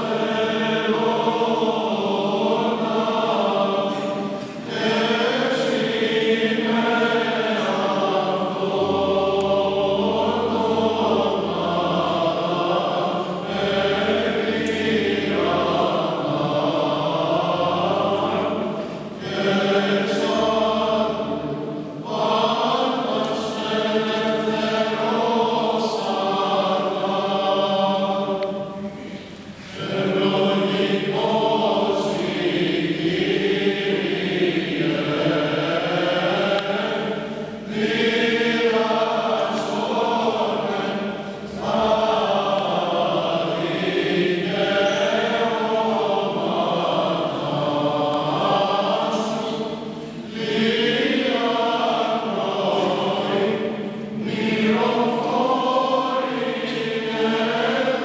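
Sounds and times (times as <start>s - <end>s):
mixed choir chanting unaccompanied: 0.0s - 58.0s.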